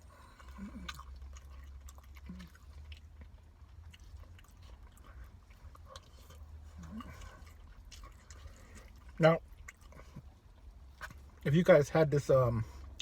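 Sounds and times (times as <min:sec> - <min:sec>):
person chewing food: 0:00.0 - 0:11.4.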